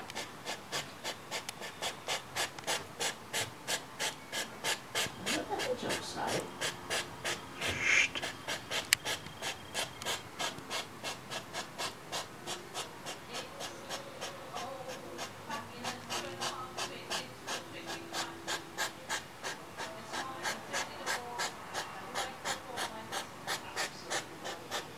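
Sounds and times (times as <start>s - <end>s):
hedgehog huffing: 0.2s - 24.9s.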